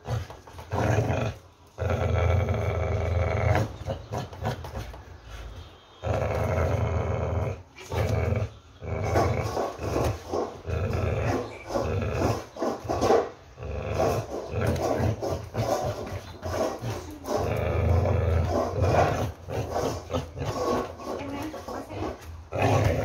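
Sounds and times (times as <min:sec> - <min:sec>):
dog growling: 0:00.0 - 0:04.9, 0:06.0 - 0:23.0.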